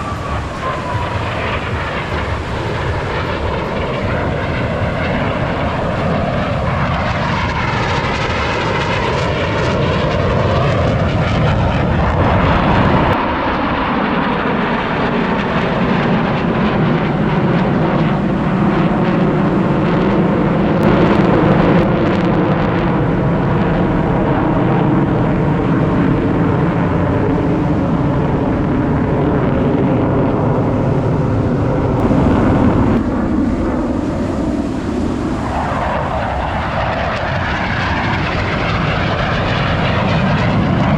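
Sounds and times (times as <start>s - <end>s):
jet engines passing: 0.0s - 40.9s.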